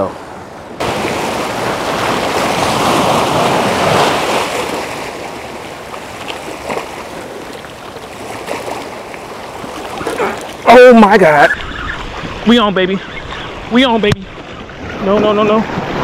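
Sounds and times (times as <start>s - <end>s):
waves breaking against rocks: 0.1s - 16.0s.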